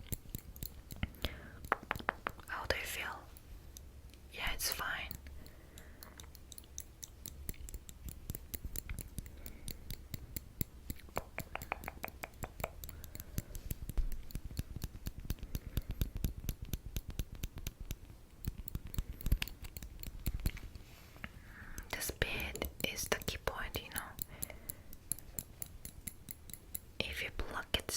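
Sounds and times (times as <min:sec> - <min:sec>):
metal tweezers clicking: 0:00.0 - 0:01.7, 0:03.7 - 0:20.6, 0:21.7 - 0:27.0.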